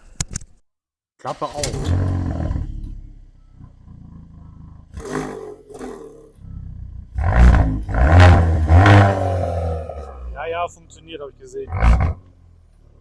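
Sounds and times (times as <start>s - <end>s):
car engine revving: 1.3s - 13.0s.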